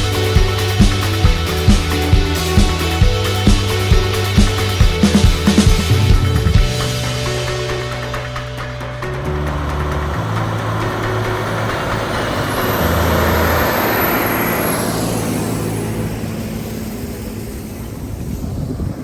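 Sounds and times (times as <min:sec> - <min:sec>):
harvest machinery passing: 0:00.0 - 0:19.0.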